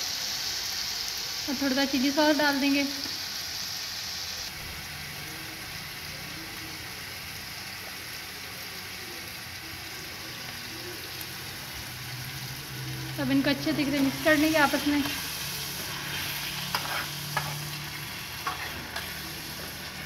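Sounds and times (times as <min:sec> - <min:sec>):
chicken sizzling in frying pan: 0:00.0 - 0:20.0.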